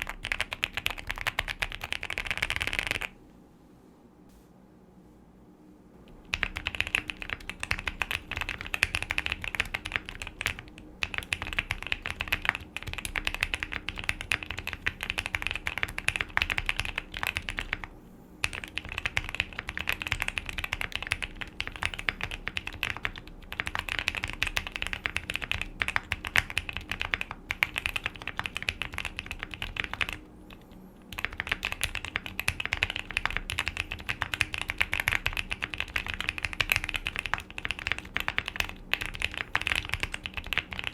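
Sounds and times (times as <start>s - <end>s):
typing on mechanical keyboard: 0.0s - 3.2s, 6.2s - 40.9s.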